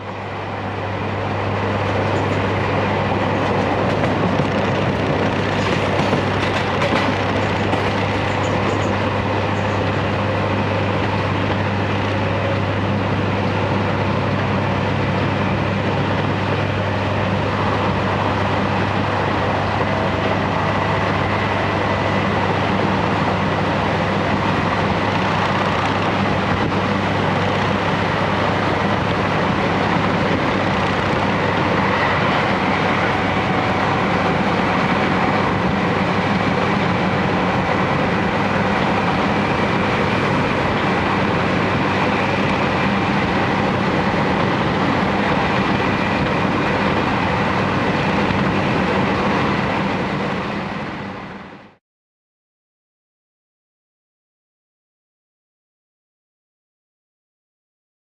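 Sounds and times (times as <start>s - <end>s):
train wheels rumbling on rails: 0.0s - 51.8s.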